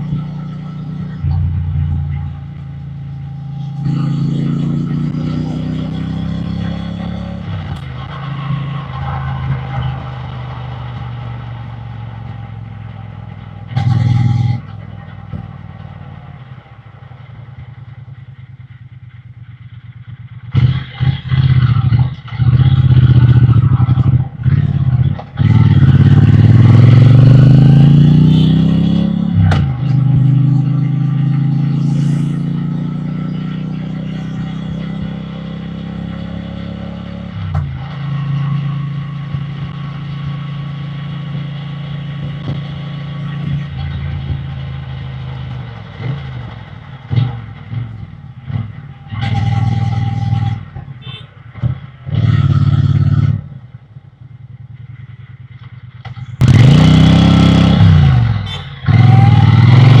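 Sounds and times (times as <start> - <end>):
motorcycle engine and exhaust: 0.0 - 60.0.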